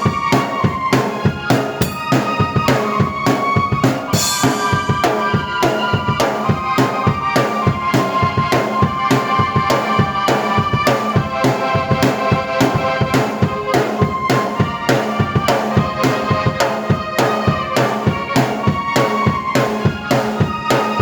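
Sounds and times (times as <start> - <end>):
drum beat: 0.0 - 21.0
keyboard chords: 0.0 - 21.0.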